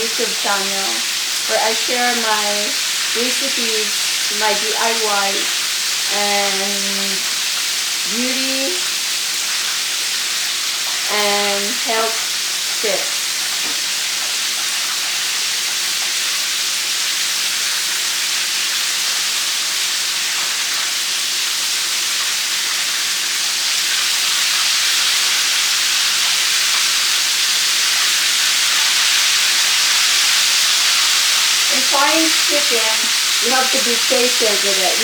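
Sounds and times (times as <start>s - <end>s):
chicken frying in hot oil: 0.0s - 35.0s.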